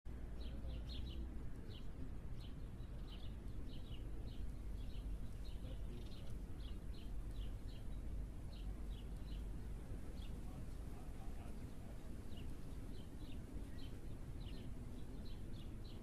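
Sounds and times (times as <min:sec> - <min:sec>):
birds chirping: 0:00.1 - 0:16.0
steady low rumble: 0:00.1 - 0:16.0.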